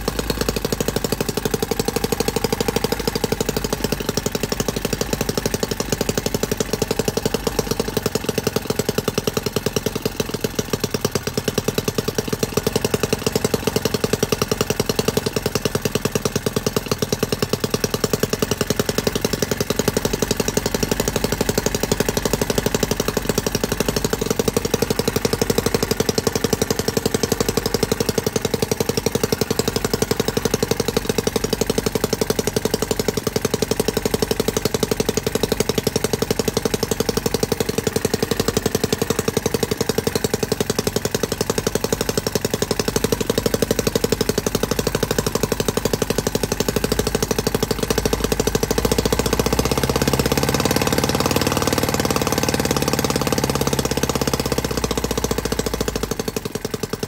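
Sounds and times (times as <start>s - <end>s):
model engine running: 0.0s - 57.0s.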